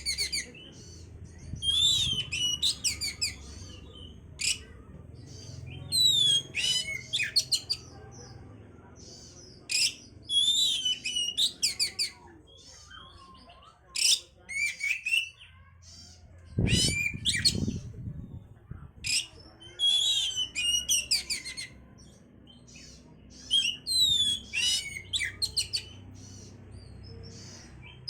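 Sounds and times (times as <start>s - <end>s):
magpie-robin singing: 0.0s - 8.4s, 9.0s - 18.4s, 19.0s - 28.0s.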